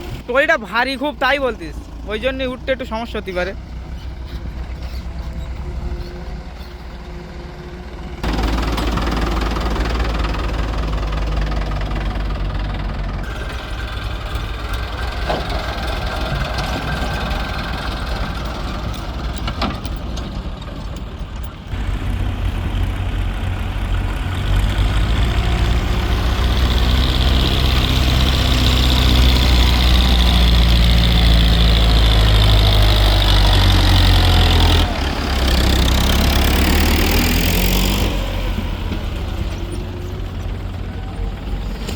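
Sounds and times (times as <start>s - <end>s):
diesel tractor engine labouring: 0.0s - 41.9s.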